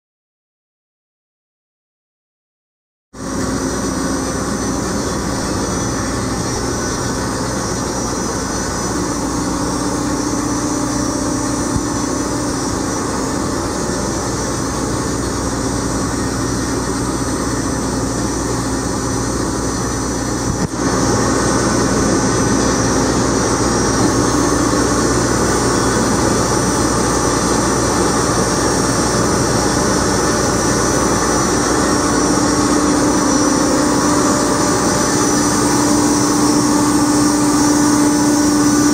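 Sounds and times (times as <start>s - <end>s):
dough mixer drive humming: 3.2s - 38.9s.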